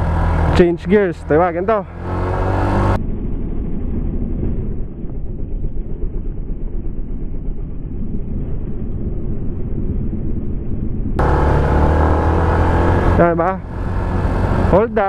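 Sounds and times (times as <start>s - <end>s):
motorcycle riding muffled roar: 0.0s - 15.0s.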